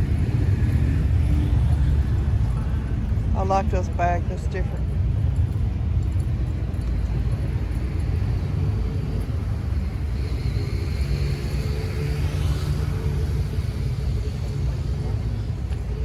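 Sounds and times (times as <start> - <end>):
motor vehicle engine rumble: 0.0 - 16.0.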